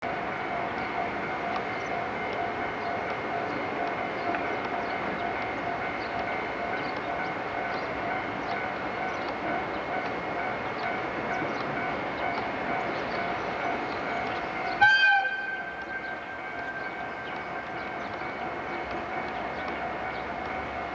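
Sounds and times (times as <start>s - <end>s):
train droning: 0.0s - 20.9s.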